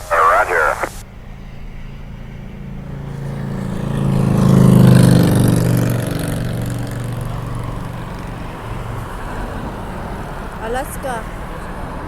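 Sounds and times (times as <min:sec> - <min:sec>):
steady background rumble: 0:00.0 - 0:12.0
vehicle engine passing by: 0:00.6 - 0:12.0.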